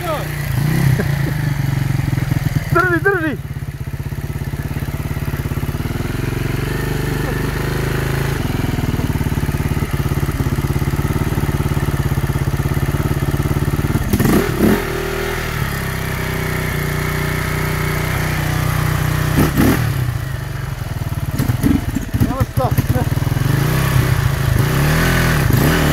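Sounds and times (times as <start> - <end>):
motorcycle engine idling: 0.0 - 25.9
motorcycle throttle revs: 0.0 - 25.9.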